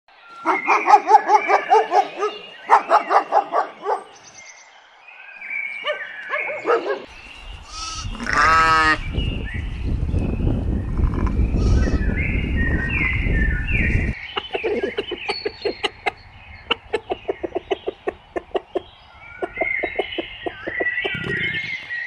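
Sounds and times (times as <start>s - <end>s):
animals calling: 0.3s - 4.8s, 5.6s - 9.4s, 10.6s - 22.0s.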